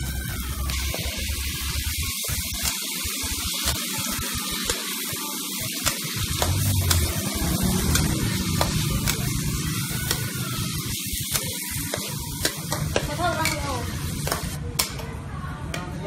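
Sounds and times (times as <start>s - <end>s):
food sizzling in a hot pan: 0.0s - 14.6s.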